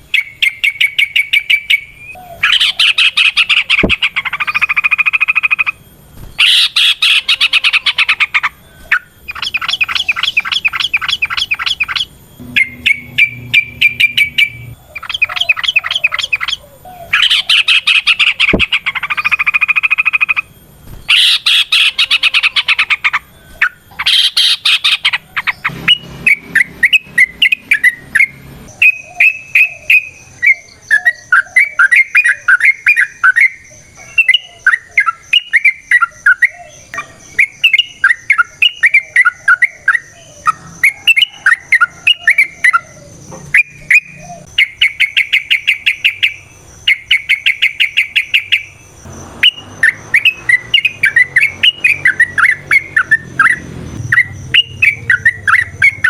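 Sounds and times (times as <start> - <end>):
bird singing bubbling phrases: 6.4 - 20.5, 21.1 - 48.7, 49.4 - 56.0.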